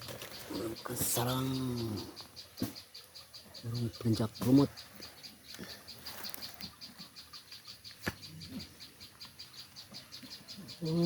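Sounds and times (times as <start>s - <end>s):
insect chirping trill: 0.0s - 11.0s.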